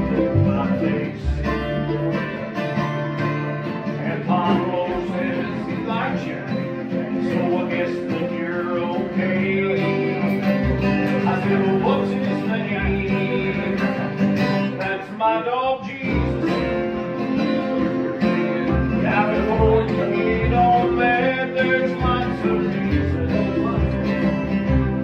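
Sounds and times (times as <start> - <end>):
bluegrass band on acoustic strings: 0.0 - 25.0.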